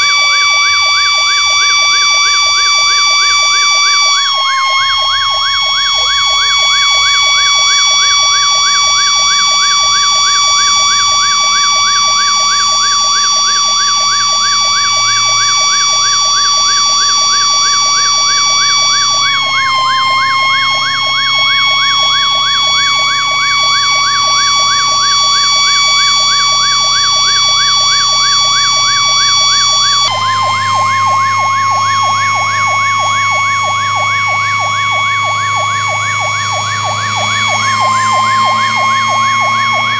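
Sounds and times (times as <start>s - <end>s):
electronic siren yelp: 0.0s - 39.9s
steady high siren tone: 0.0s - 39.9s
truck engine running low: 0.0s - 39.9s.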